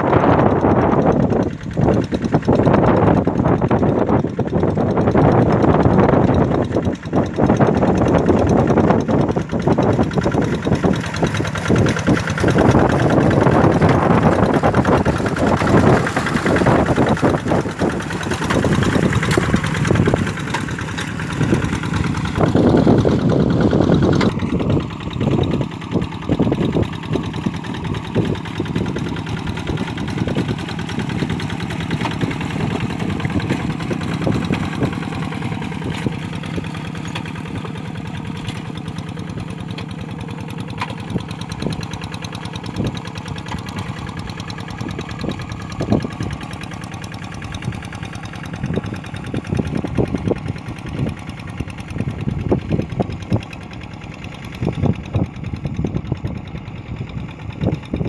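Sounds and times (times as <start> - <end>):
diesel hand tractor chugging: 0.0 - 58.0.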